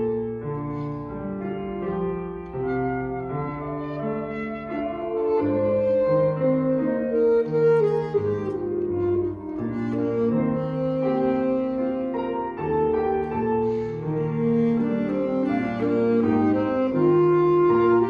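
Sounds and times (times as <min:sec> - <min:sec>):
piano accompaniment: 0:00.0 - 0:18.0
saxophone: 0:00.0 - 0:18.0.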